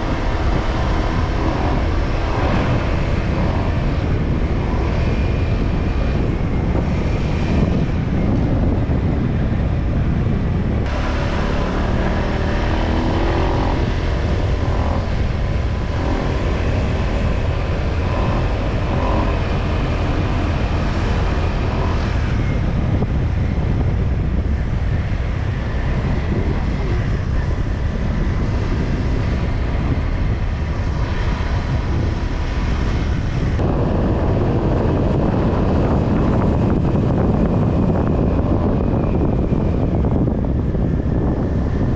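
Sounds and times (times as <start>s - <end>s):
scooter engine drone: 0.0s - 41.9s
wind rushing: 0.0s - 41.9s.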